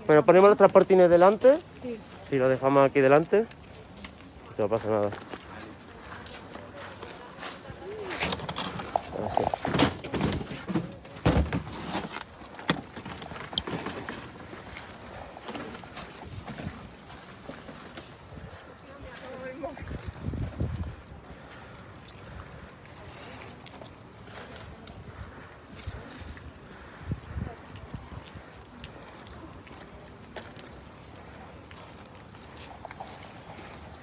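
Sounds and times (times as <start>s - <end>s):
people moving about: 0.0s - 34.0s
wind and handling on microphone: 3.3s - 34.0s.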